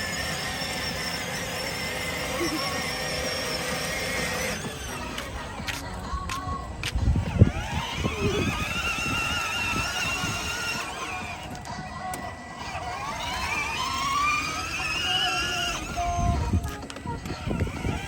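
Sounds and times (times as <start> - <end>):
toy truck motor whining: 0.0 - 6.2, 7.0 - 18.0.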